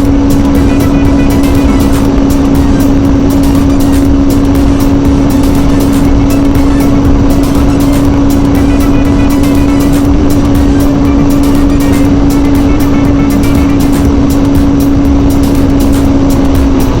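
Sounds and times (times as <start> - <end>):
motorcycle engine at high revs: 0.0 - 17.0
wind noise: 0.0 - 17.0.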